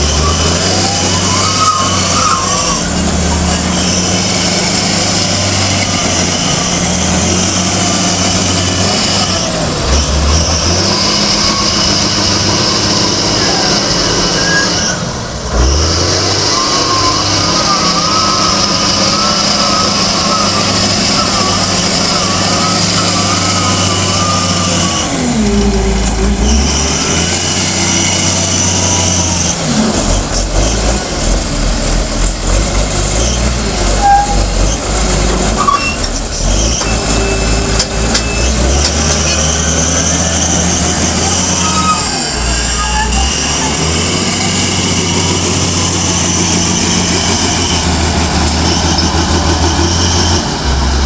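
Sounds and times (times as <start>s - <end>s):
diesel engine running under load: 0.0s - 51.0s.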